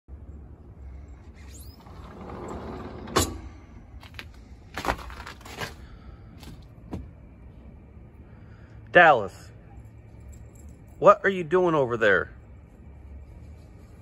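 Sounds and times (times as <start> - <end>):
low steady rumble: 0.1 - 14.0.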